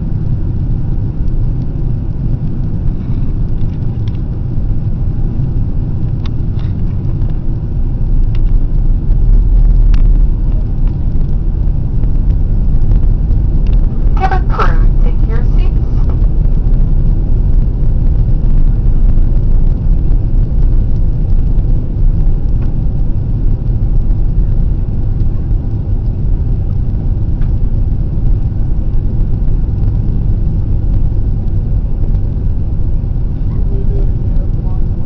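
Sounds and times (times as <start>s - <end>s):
airliner cabin engine rumble: 0.0s - 35.0s.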